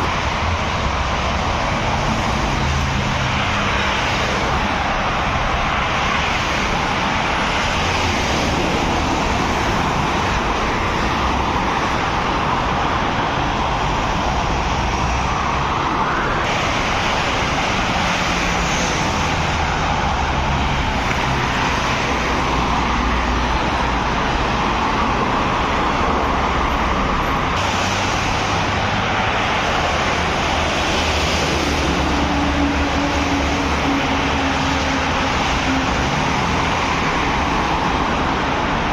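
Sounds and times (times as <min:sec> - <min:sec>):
tyres hissing on road: 0:00.0 - 0:38.9.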